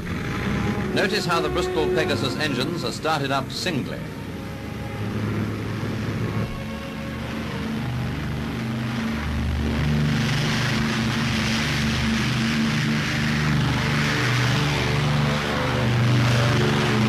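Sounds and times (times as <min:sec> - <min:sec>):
propeller hiss: 0:00.0 - 0:17.0
radial aircraft engines running: 0:00.0 - 0:17.0.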